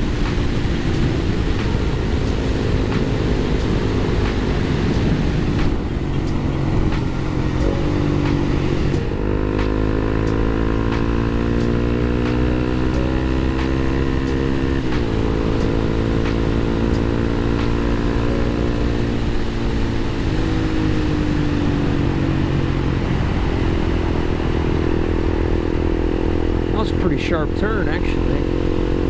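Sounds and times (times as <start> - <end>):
motorcycle engine revving: 0.0 - 29.0
wind and road noise: 0.0 - 29.0.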